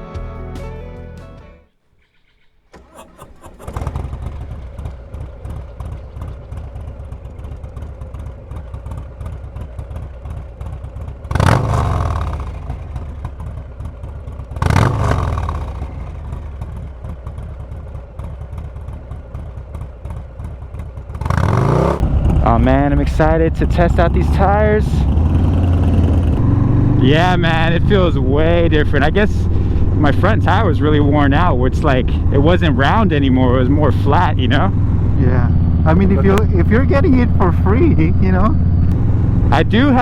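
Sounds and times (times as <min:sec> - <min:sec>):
motorcycle engine idling and revving: 0:02.1 - 0:40.0.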